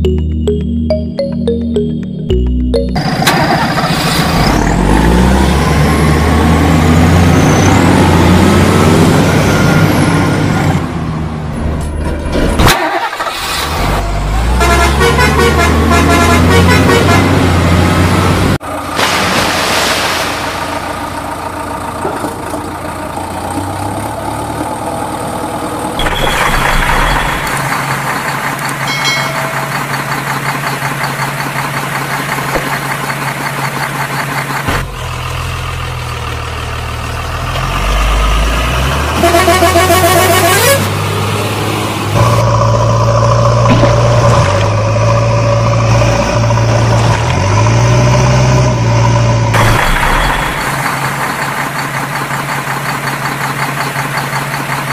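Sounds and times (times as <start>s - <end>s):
truck engine running and idling: 0.0s - 54.9s.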